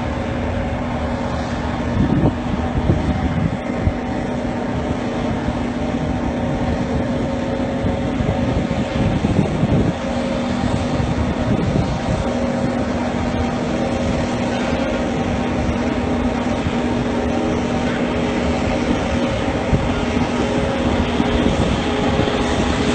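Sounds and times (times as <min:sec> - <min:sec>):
heavy equipment engine droning: 0:00.0 - 0:22.9.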